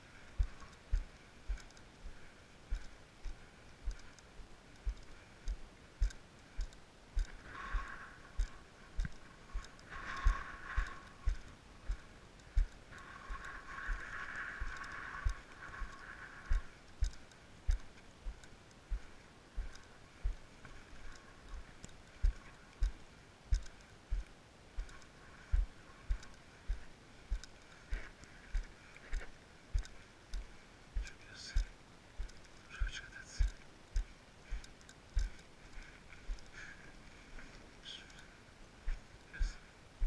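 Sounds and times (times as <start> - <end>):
dull low thumps of footsteps: 0.0 - 40.0.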